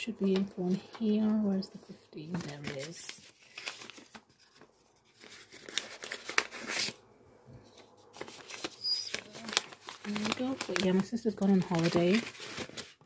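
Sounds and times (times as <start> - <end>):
paper rustling and crinkling: 0.2 - 7.0, 7.6 - 13.0.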